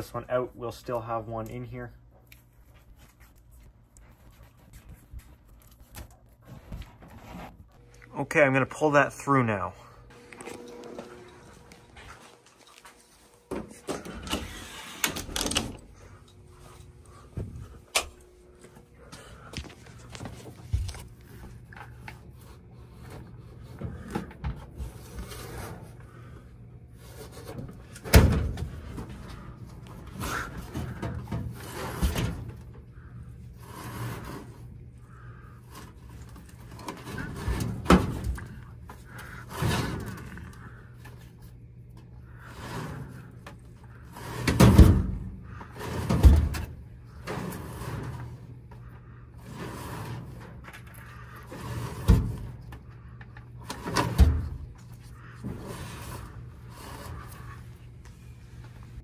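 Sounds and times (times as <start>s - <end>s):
low hum: 0.0s - 59.0s
cable rustling and scraping: 0.6s - 8.2s, 10.1s - 59.0s.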